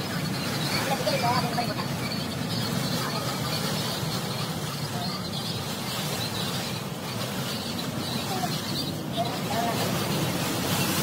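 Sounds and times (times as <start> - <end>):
tyres on a flooded road: 0.0 - 11.0
wind: 0.0 - 11.0.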